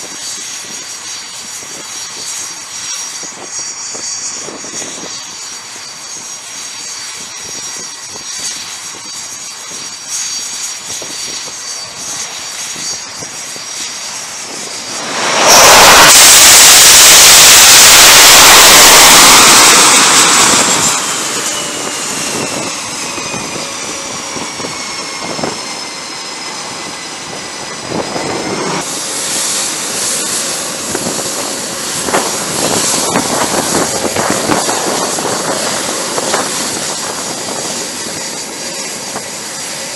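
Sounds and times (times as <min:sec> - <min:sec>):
jet engine loud roar: 0:00.0 - 0:39.9
jet engine whine: 0:00.0 - 0:39.9
taxiing jet high whine: 0:00.0 - 0:39.9.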